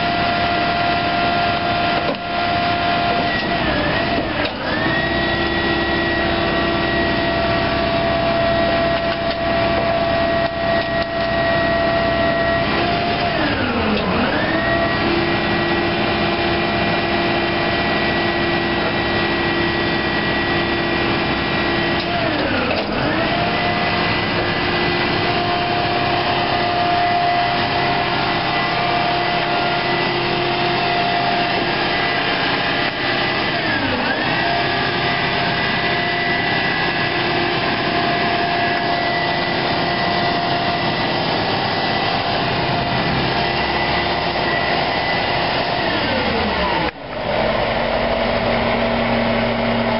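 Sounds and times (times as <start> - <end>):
garbage truck engine whining: 0.0 - 49.9.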